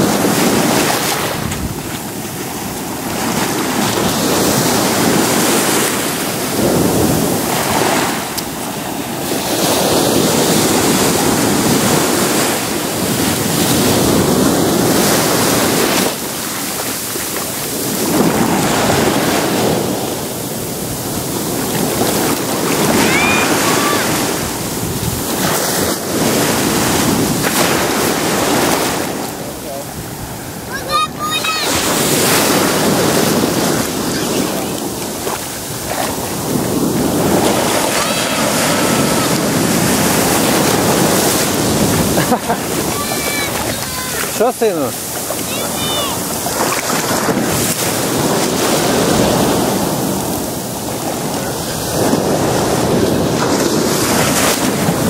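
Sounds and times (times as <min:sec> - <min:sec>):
small surf breaking on beach: 0:00.0 - 0:55.0.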